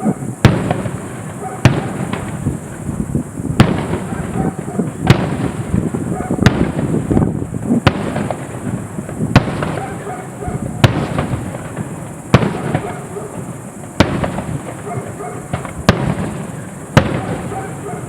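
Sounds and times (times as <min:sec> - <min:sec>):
firework shells bursting: 0:00.0 - 0:18.0
fireworks crackle and rumble: 0:00.0 - 0:18.0.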